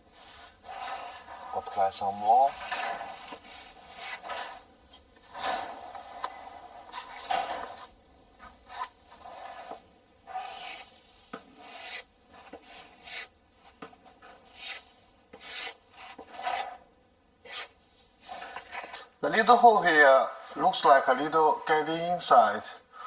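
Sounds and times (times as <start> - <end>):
putty knife scraping drywall: 0.0 - 19.1.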